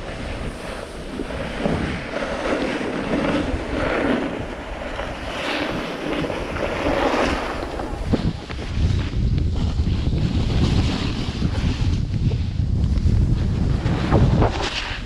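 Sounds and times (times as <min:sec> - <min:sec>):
skis hissing over packed snow: 0:00.0 - 0:12.5, 0:13.4 - 0:15.0
wind buffeting microphone: 0:00.0 - 0:15.0.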